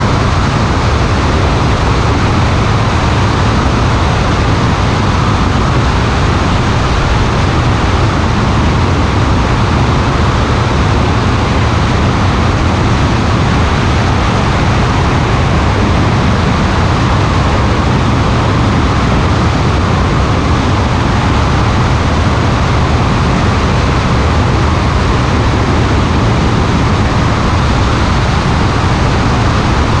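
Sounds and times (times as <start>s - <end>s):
aircraft in flight rushing: 0.0s - 30.0s.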